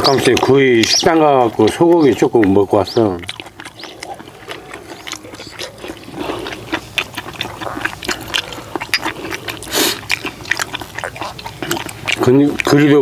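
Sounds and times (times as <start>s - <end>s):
slurp: 0.0s - 13.0s
wet chewing and lip smacks: 0.0s - 13.0s.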